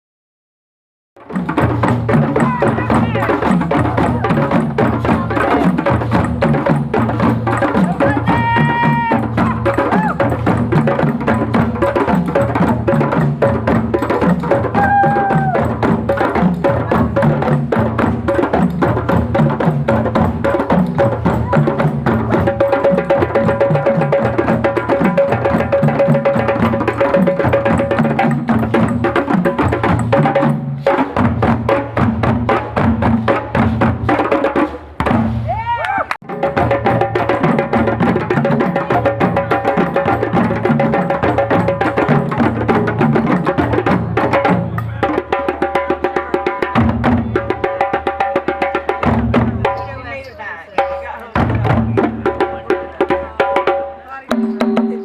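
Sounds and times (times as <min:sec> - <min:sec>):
hand drums beating: 0:01.2 - 0:55.0.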